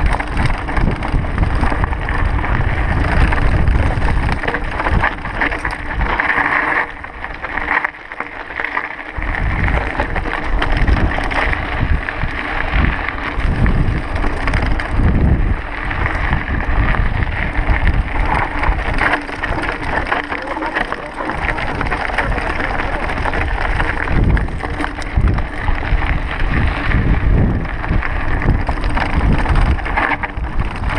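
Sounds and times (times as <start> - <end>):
wind rushing over microphone: 0.0 - 7.8, 9.1 - 30.9
bike rattling over stones: 0.0 - 30.9.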